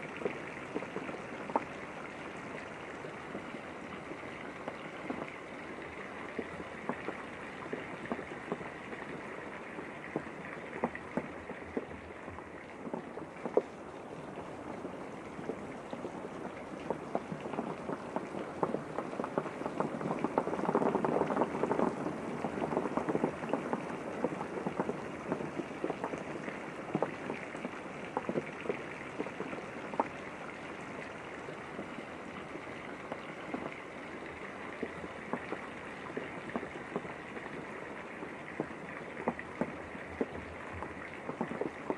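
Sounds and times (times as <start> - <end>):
rain on a window: 0.0 - 41.9.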